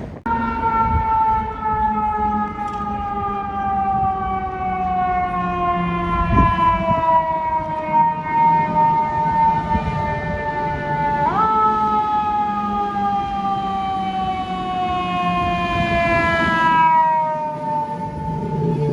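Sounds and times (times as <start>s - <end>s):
truck engine rumbling: 0.0s - 11.3s, 12.6s - 18.9s
siren falling wail: 0.1s - 18.9s.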